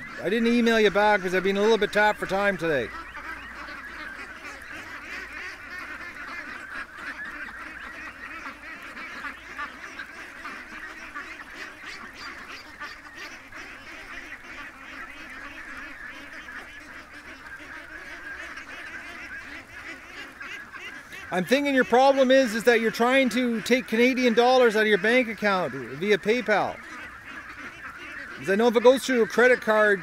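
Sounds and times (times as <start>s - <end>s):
ducks calling: 0.0s - 30.0s.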